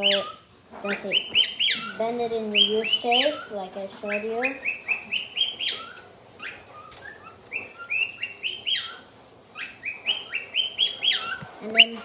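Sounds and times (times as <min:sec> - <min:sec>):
pet birds chirping: 0:00.0 - 0:12.0.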